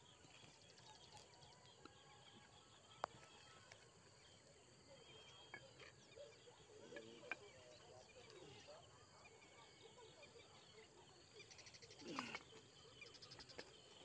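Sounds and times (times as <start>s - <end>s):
faint chirps: 0.0s - 14.0s.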